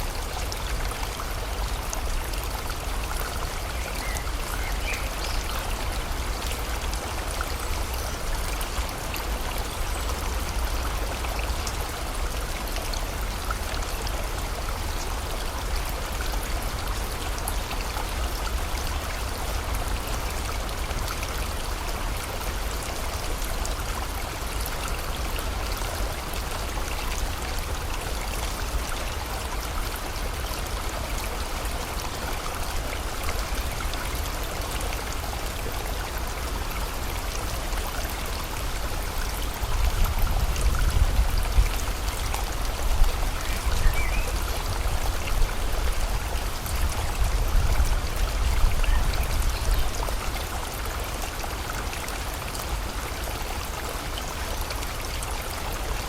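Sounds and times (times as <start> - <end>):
flowing stream rushing: 0.0 - 56.0
rain: 0.0 - 56.0.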